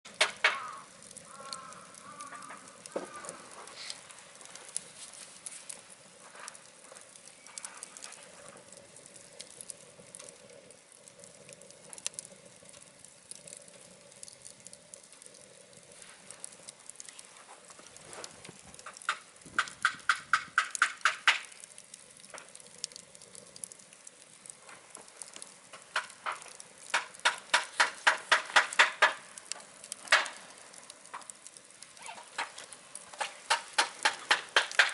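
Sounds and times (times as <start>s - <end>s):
wood fire crackling: 0.0s - 34.9s
faint hiss: 0.1s - 34.9s
rapid evenly spaced ticks: 0.1s - 34.9s
sharp pops: 0.1s - 34.9s.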